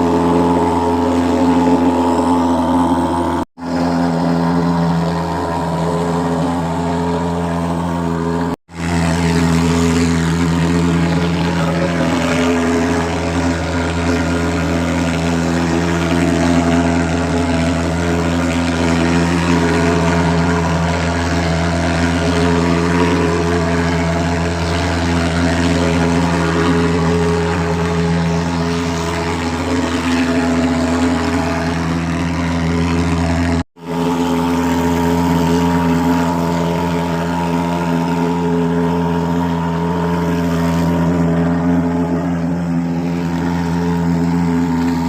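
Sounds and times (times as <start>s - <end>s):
fogging machine droning: 0.0s - 45.0s.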